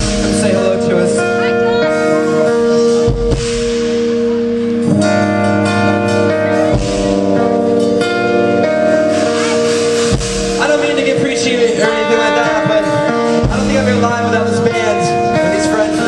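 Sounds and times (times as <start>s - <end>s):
guitar chords ringing: 0.0s - 16.0s.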